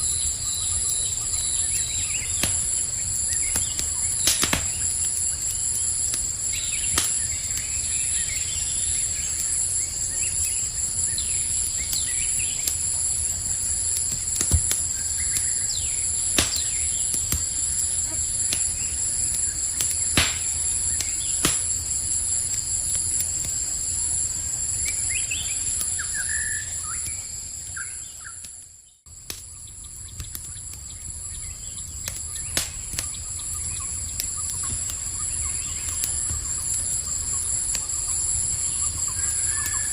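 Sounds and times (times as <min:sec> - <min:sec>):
campfire crackling and popping: 0:00.0 - 0:39.9
night insects trilling: 0:00.0 - 0:39.9.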